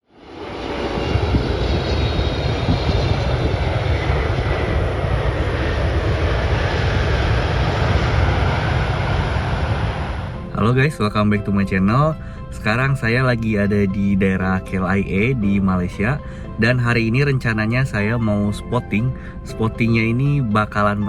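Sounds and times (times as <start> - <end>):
faint high whine: 0.1 - 20.7
jet engines rumbling: 0.1 - 21.0.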